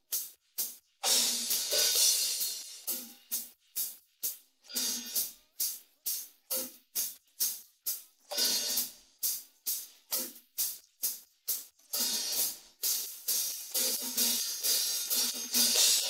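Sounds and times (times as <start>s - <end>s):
cymbals struck in a steady beat: 0.0s - 16.0s.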